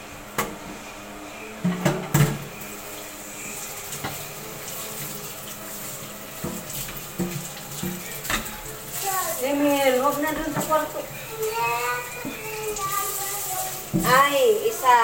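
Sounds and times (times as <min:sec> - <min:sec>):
tap water running into sink: 0:01.8 - 0:15.0.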